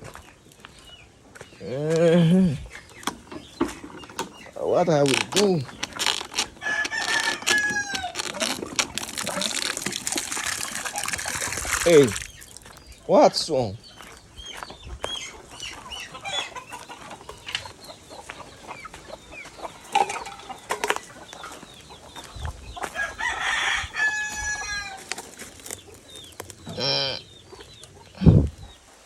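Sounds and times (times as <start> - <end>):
chickens clucking and calling: 0.0 - 29.0.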